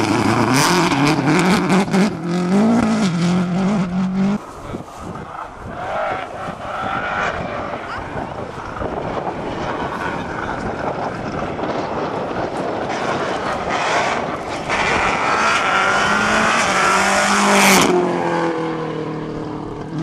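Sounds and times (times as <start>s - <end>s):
rally car engine passing by: 0.0s - 20.0s.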